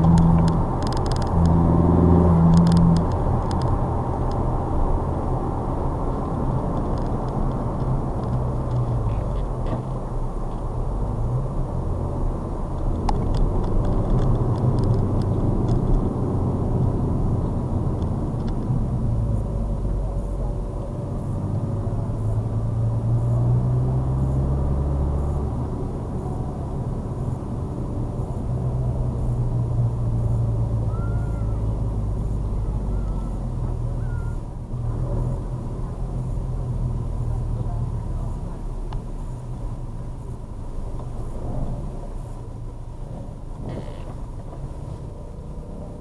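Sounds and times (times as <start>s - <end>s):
car engine droning at low revs: 0.0s - 46.0s
tyre and road noise: 0.0s - 46.0s.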